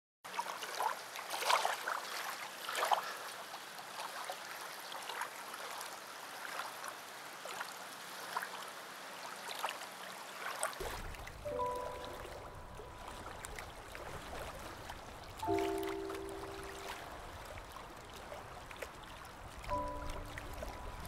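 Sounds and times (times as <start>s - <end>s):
small waves lapping on beach: 0.3s - 21.0s.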